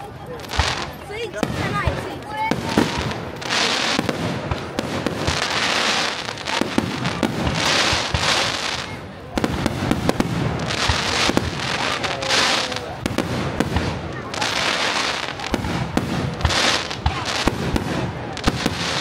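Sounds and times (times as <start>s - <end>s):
firework crackling: 0.0s - 19.0s
firework bangs: 0.3s - 19.0s.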